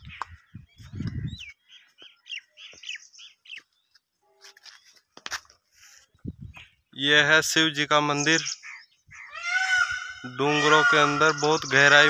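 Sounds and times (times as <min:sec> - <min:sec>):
bird chirping: 0:00.0 - 0:05.2, 0:06.2 - 0:07.0, 0:08.0 - 0:12.0.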